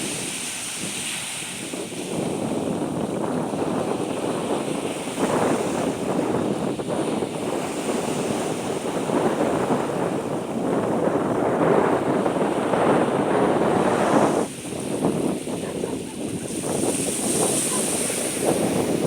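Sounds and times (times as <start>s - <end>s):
surf: 0.0s - 19.0s
wind: 0.0s - 19.0s.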